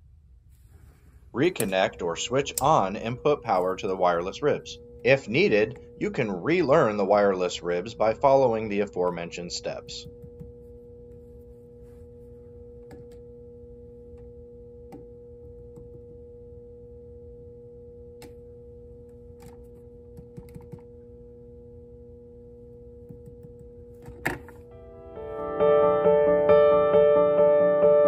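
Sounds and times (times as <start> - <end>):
transformer electrical hum: 0.0 - 25.4.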